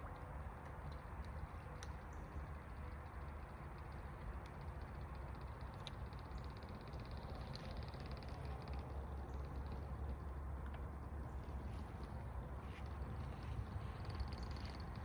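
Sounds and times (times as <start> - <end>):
faint rapid ticking: 0.0 - 15.0
low wind rumble on microphone: 0.0 - 15.0.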